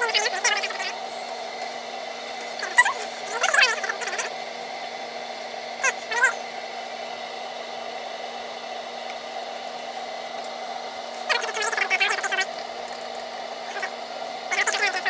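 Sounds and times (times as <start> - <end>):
water rushing in kettle: 0.0 - 15.0.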